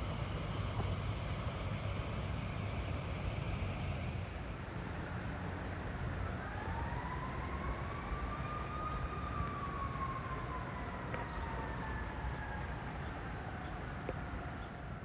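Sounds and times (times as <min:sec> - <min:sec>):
distant siren wailing: 0:00.0 - 0:15.0.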